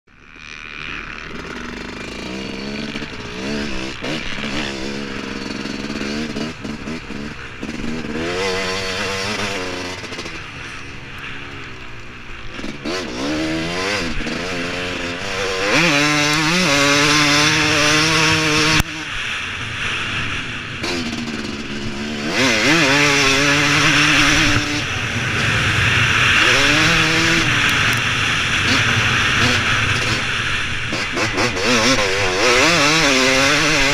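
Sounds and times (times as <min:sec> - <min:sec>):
two-stroke motocross engine revving: 0:00.1 - 0:33.9.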